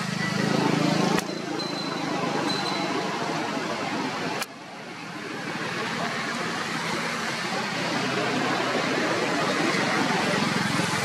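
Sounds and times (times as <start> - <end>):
rushing outdoor background noise: 0.0 - 11.0.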